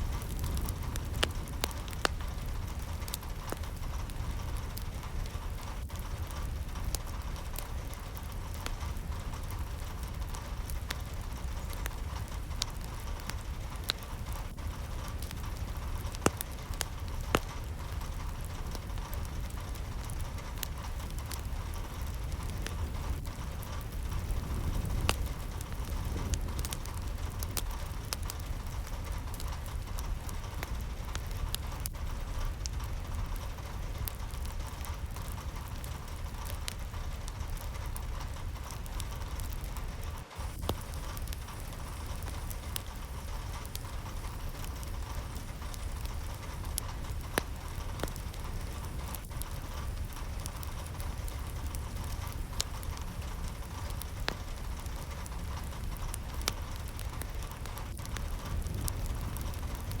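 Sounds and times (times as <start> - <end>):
low rumble: 0.0 - 60.0
steady rain: 0.0 - 60.0.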